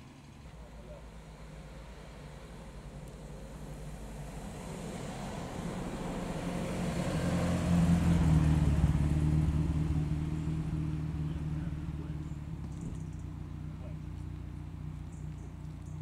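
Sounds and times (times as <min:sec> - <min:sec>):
car engine driving past: 0:00.0 - 0:16.0.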